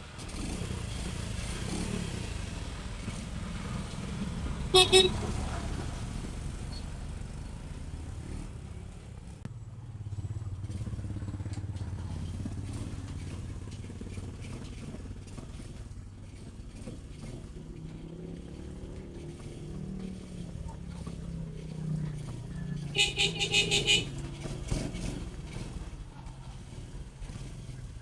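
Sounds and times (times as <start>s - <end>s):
small motorcycle engine running: 0.0s - 28.0s.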